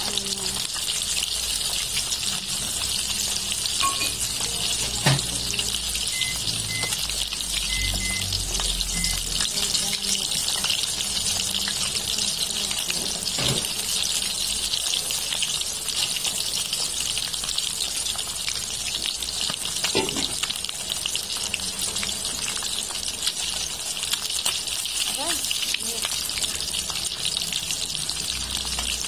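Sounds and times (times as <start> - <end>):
fish deep-frying in oil: 0.0 - 29.0.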